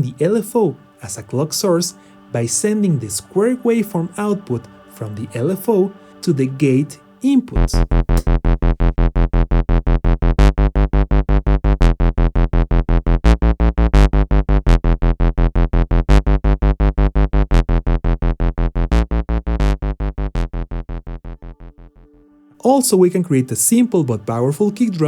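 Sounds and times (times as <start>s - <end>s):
synthesizer pulsing low note: 0.0s - 15.6s, 19.2s - 25.0s.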